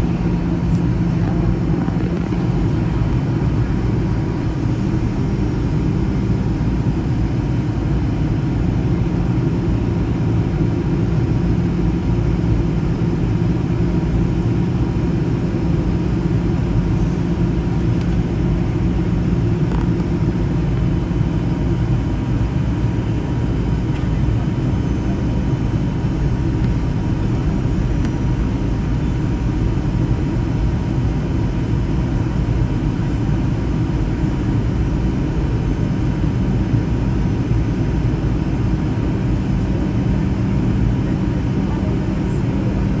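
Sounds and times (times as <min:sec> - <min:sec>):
airplane cabin engine drone: 0:00.0 - 0:43.0.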